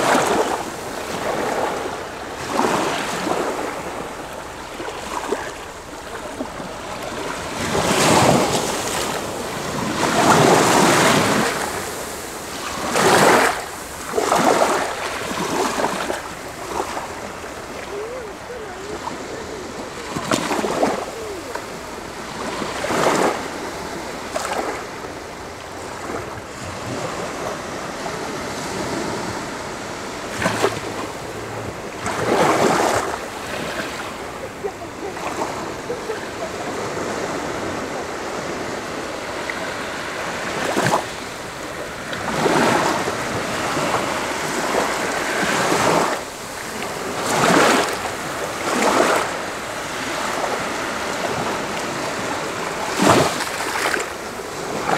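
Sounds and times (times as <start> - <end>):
waves washing up beach: 0.0 - 54.9.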